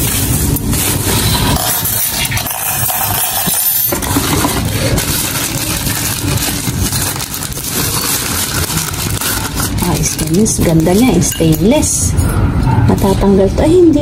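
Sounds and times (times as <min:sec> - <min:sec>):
plastic wrap crinkling: 0:00.0 - 0:11.8.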